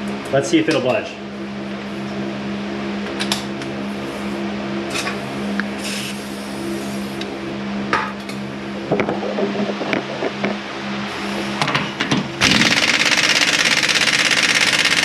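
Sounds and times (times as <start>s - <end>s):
machine hum: 1.2s - 14.1s.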